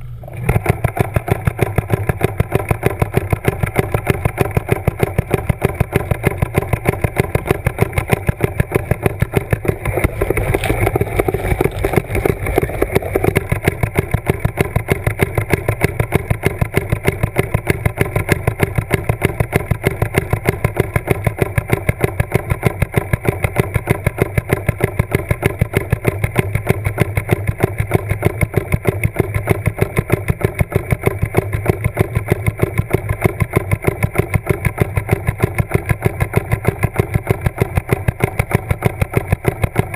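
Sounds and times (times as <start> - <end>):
rapid mechanical pulsing: 0.0 - 39.9.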